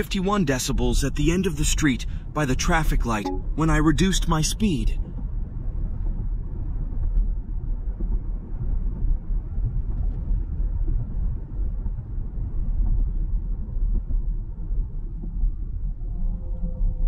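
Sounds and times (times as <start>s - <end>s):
road and tyre rumble in car cabin: 0.0s - 17.0s.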